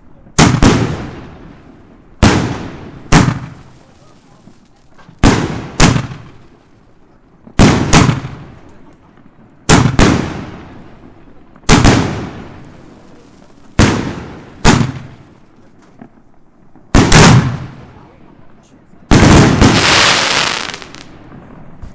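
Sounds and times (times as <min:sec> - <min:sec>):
fireworks banging: 0:00.0 - 0:21.9.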